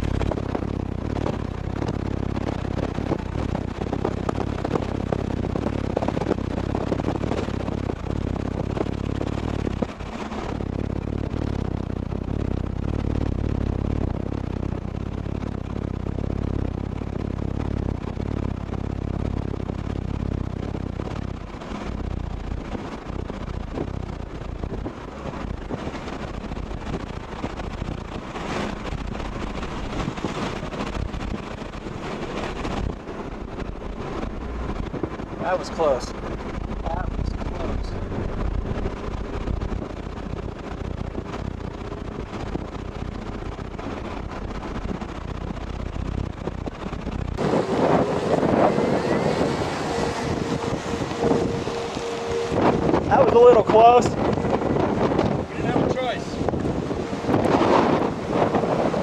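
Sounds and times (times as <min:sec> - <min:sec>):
road and wind noise in car: 0:00.0 - 0:59.0.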